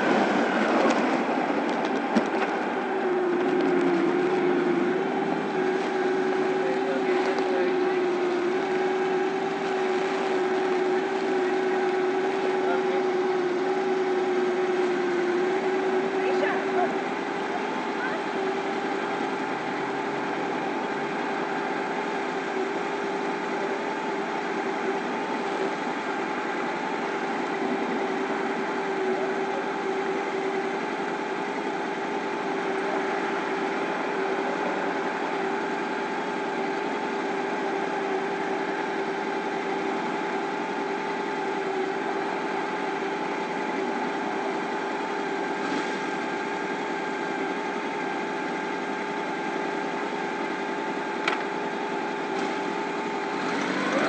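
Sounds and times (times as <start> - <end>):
motorcycle engine idling: 0.0 - 53.4.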